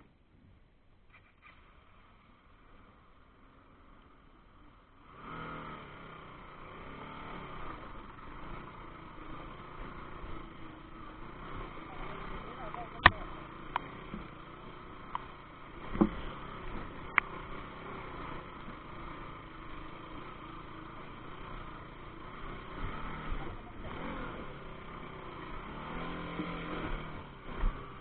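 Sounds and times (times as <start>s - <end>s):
motorcycle engine: 0.8s - 28.0s.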